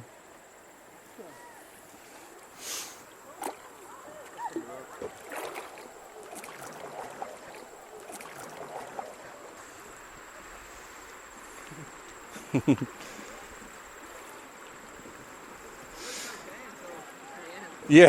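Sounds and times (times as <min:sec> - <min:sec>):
creek water running: 0:00.0 - 0:18.0
distant voices: 0:00.9 - 0:18.0.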